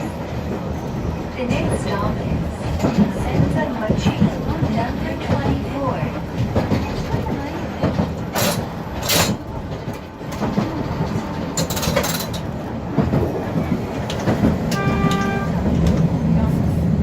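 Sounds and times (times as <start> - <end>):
streetcar motor and wheel rumble: 0.0 - 17.0.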